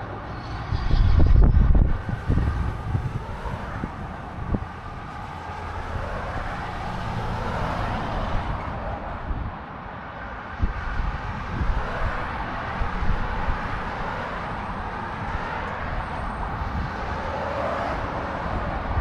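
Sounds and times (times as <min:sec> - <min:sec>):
passenger train passing: 0:00.0 - 0:09.7, 0:11.0 - 0:19.0.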